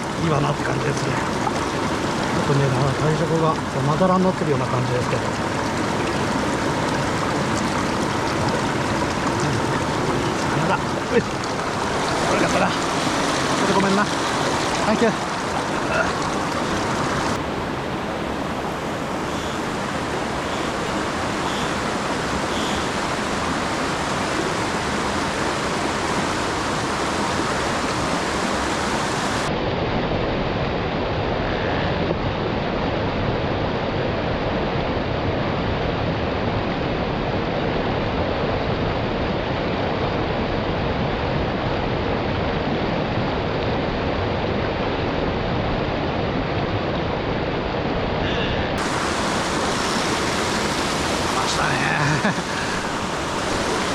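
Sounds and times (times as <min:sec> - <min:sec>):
mountain stream rushing: 0:00.0 - 0:29.6, 0:39.1 - 0:53.9.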